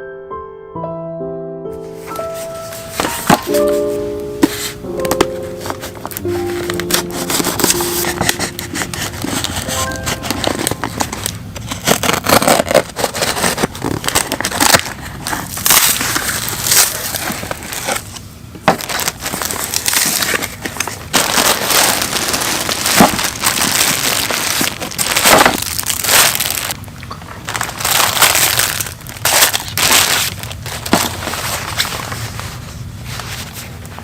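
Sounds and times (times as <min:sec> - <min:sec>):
crunching and crinkling: 0:02.1 - 0:34.0.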